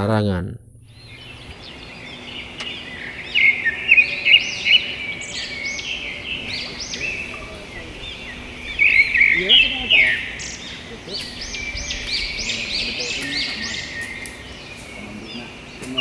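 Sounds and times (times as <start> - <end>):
steady high hiss: 0.5 - 16.0
forest birds chirping: 0.6 - 16.0.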